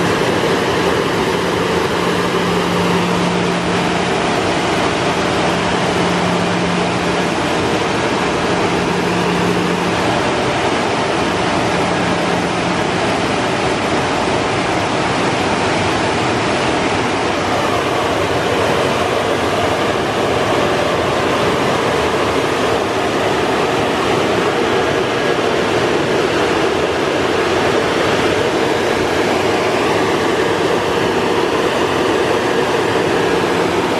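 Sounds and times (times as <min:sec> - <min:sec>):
dryer blowers rushing air: 0:00.0 - 0:33.9.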